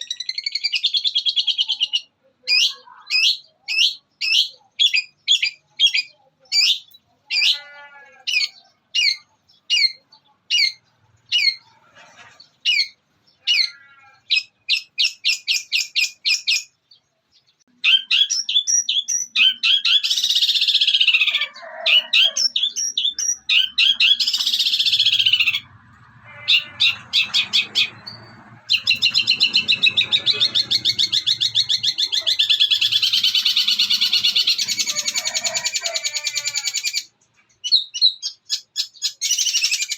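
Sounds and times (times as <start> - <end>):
shrike singing mimicry song: 0.0 - 39.9.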